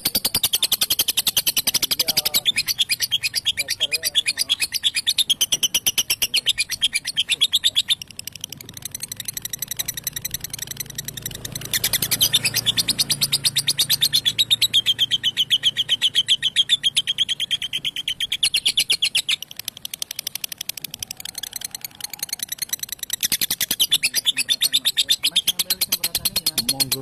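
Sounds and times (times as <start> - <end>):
bird chattering trill: 0.0 - 27.0.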